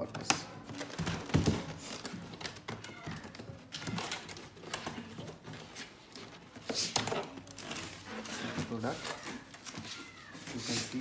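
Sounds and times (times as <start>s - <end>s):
hands handling cardboard box: 0.0s - 11.0s.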